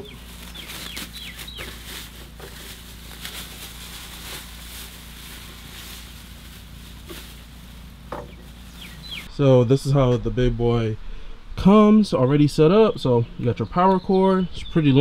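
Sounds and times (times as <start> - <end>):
small birds chirping: 0.0 - 9.5, 11.4 - 15.0
steady low hum: 0.0 - 15.0.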